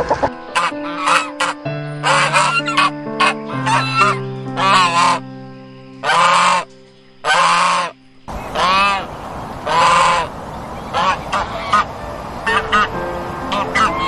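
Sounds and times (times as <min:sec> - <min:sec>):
background noise: 0:00.0 - 0:14.0
waterfowl honking: 0:00.4 - 0:05.2, 0:06.0 - 0:14.0.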